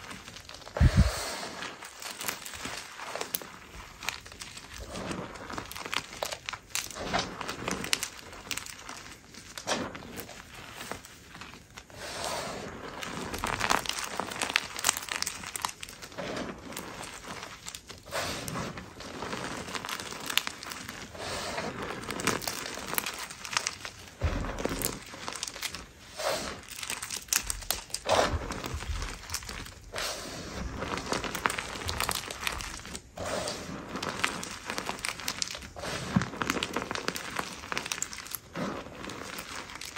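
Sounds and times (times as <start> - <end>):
chalk powder crunching in hands: 0.0 - 39.9.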